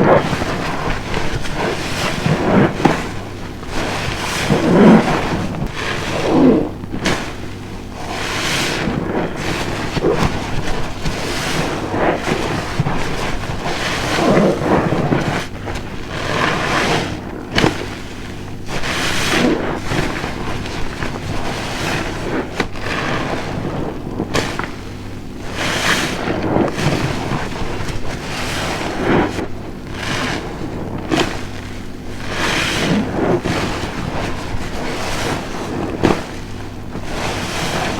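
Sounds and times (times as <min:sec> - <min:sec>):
soapy sponge squelching: 0:00.0 - 0:37.9.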